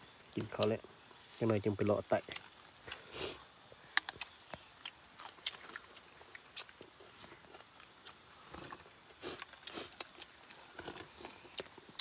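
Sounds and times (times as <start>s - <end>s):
faint eating clicks and chewing: 0.1s - 12.0s.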